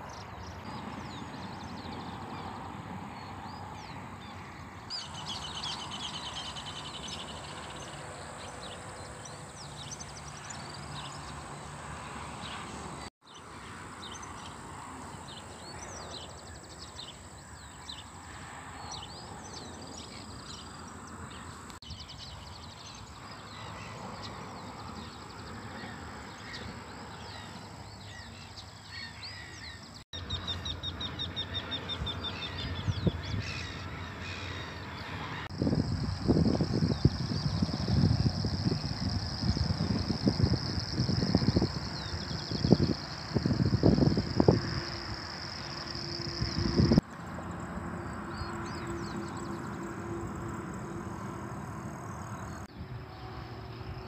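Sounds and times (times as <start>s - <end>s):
birds chirping: 0.0s - 52.7s.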